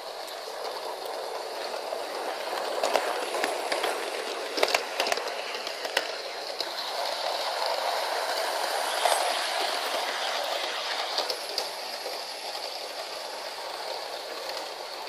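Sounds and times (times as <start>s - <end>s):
model train running rattle: 0.0s - 15.0s
sharp clicks of model track: 0.0s - 15.0s.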